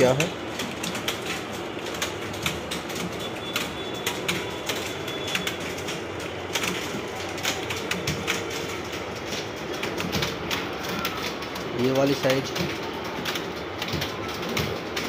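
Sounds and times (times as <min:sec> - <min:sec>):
keyboards typing clatter: 0:00.0 - 0:15.0.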